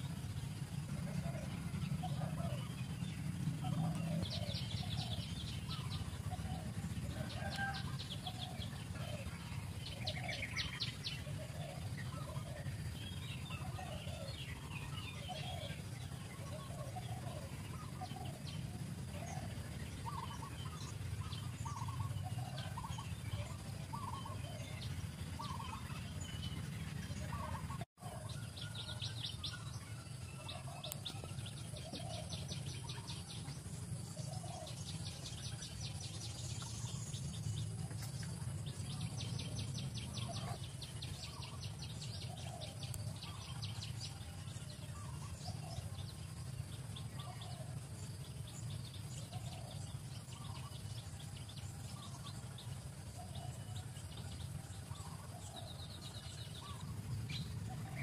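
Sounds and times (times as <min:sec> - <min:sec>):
birds calling: 0:00.0 - 0:58.0
fast high pulsing trills: 0:00.0 - 0:58.0
low background hum: 0:00.0 - 0:58.0.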